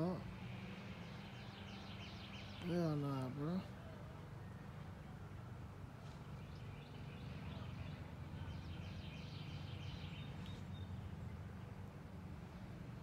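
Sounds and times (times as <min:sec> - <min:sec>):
small birds chirping: 0:00.0 - 0:05.0, 0:06.0 - 0:13.0.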